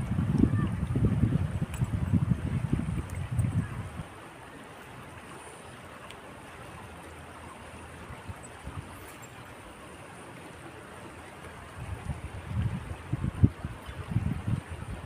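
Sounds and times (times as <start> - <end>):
river flowing over stones: 0.0 - 15.0.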